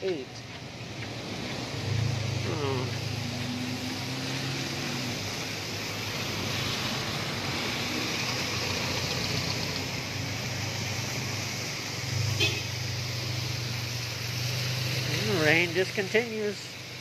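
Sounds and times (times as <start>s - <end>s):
continuous rain: 0.0s - 17.0s
engine hum: 0.0s - 17.0s
tyres hissing on wet road: 0.0s - 17.0s.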